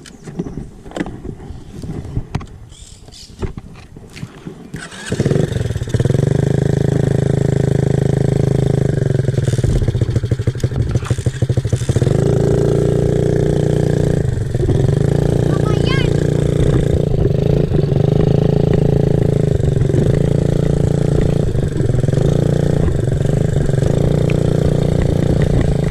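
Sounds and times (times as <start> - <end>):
pitbike engine running: 4.8 - 25.9.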